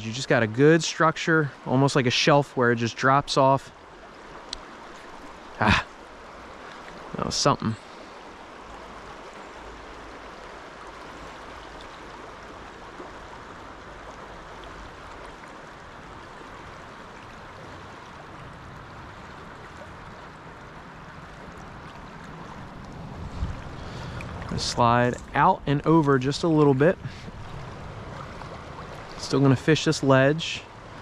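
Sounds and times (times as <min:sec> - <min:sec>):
stream water running over rocks: 0:00.0 - 0:31.0.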